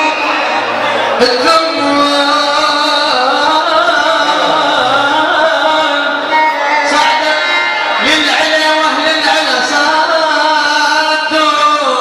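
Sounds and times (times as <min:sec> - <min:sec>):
man singing melismatic notes: 0:00.0 - 0:12.0
music: 0:00.0 - 0:12.0.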